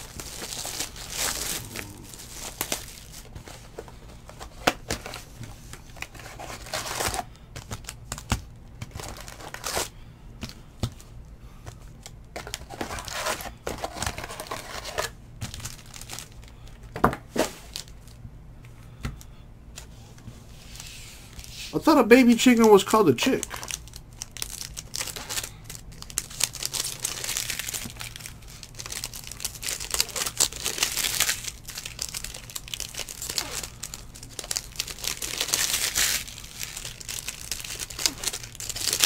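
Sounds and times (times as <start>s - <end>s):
card wrappers crinkling and tearing: 0.0s - 10.0s, 11.9s - 18.2s, 21.3s - 39.0s.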